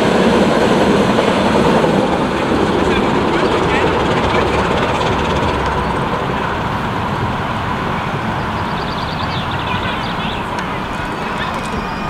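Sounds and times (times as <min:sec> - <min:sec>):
small train rumbling on track: 0:00.0 - 0:12.0.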